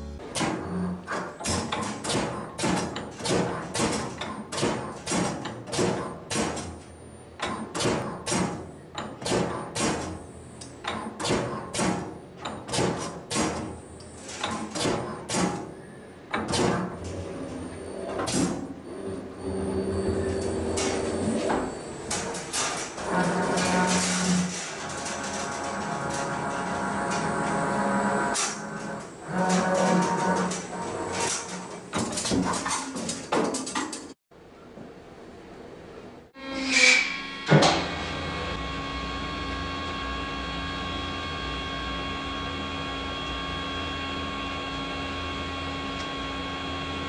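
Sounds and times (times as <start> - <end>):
machinery running hum: 0.0 - 47.0.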